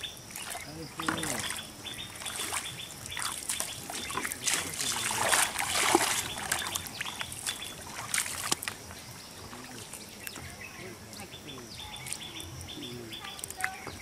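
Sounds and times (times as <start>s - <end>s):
bare feet wading through water: 0.0s - 14.0s.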